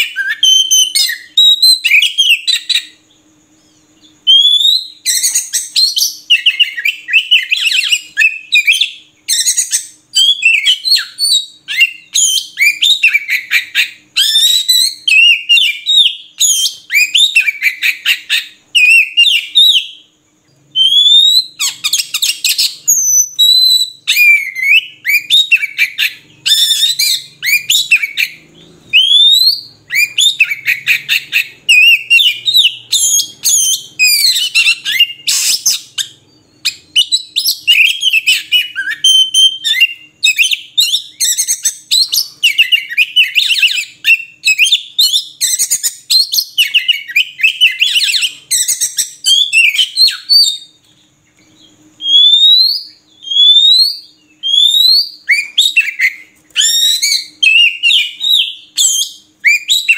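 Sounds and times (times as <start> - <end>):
bird singing whistles and trills: 0.0 - 59.9.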